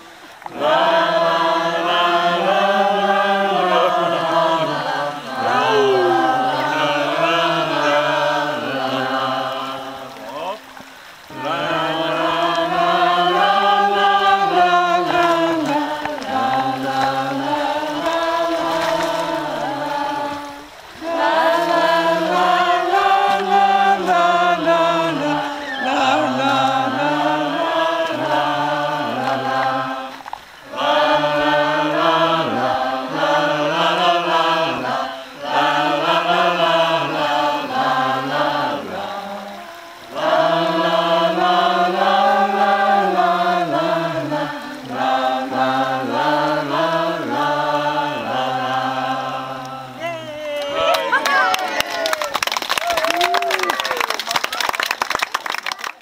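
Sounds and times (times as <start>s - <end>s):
group chanting in unison: 0.0s - 52.3s.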